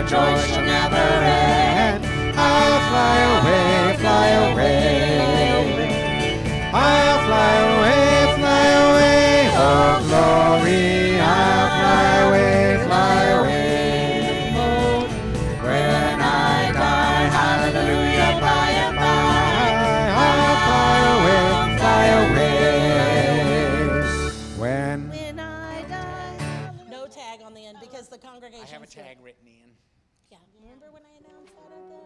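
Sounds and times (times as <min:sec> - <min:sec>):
country gospel band playing and singing: 0:00.0 - 0:26.8.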